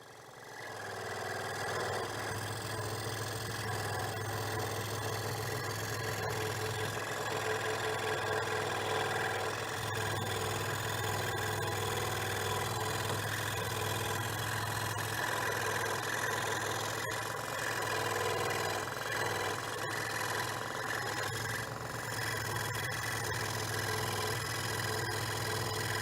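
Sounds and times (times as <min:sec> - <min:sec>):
scroll saw running: 0:00.1 - 0:26.0.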